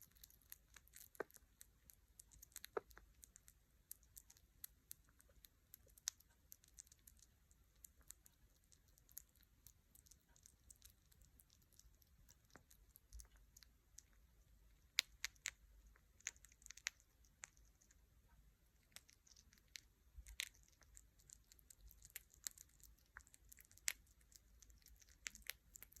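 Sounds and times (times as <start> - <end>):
small animal chewing food: 0.0 - 26.0.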